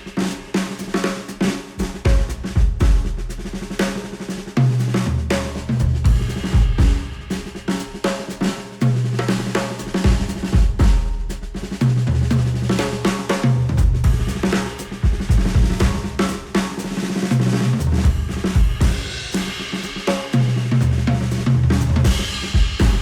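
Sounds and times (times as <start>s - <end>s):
instrumental music with drums: 0.0s - 23.0s.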